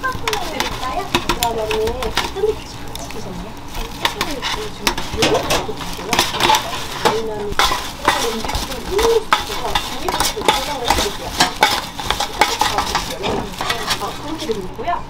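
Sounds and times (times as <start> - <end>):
metal utensils scraping pans: 0.0 - 14.7.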